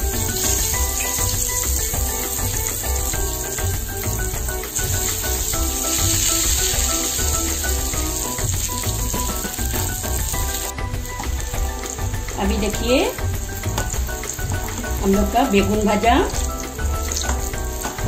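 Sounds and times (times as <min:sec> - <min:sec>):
background music with steady beat: 0:00.0 - 0:18.0
vegetable slices sizzling in oil: 0:00.0 - 0:18.0.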